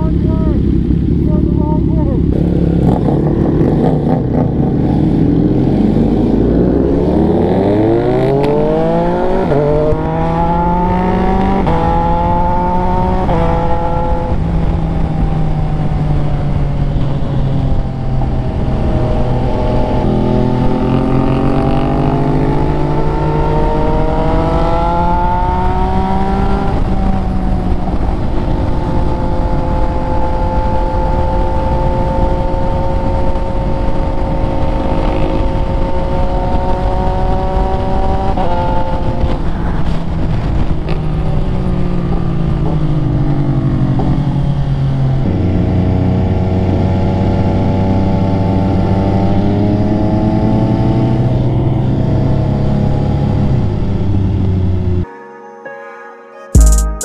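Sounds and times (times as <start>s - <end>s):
motorcycle engine accelerating: 0.0s - 55.1s
wind rumble: 0.0s - 55.1s.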